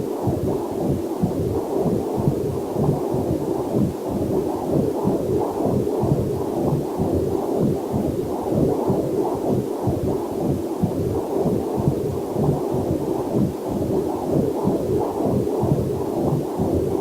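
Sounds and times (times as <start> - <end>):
heartbeat pulsing whoosh: 0.0 - 17.0.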